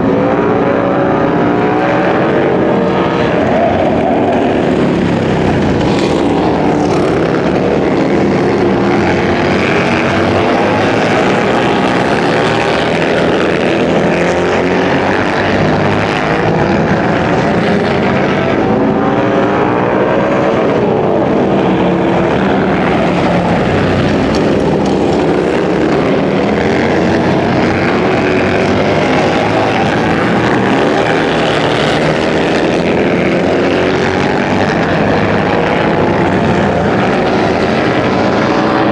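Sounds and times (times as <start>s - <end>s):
racing motorcycle engines: 0.0s - 38.9s.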